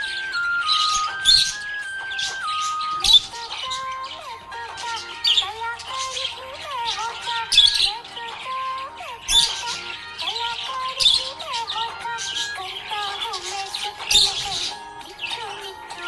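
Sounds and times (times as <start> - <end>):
budgerigar chirping and squawking: 0.0 - 16.0
music with gliding melody: 0.0 - 16.0.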